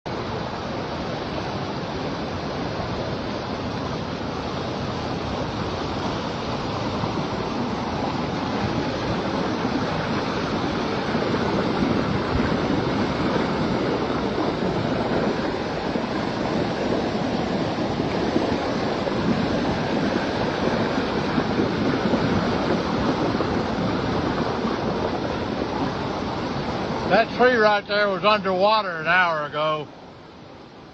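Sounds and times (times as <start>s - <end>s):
floodwater rushing: 0.1s - 30.9s.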